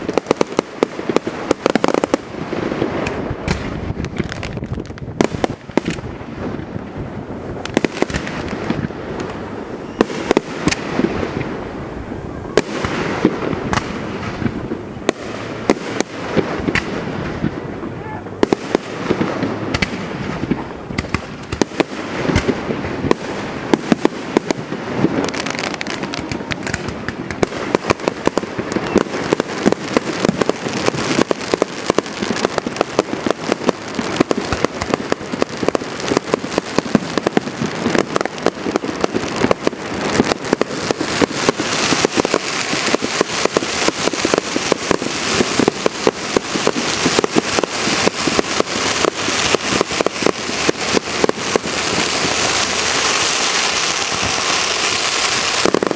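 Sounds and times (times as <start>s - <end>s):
fireworks popping and crackling: 0.0s - 55.9s.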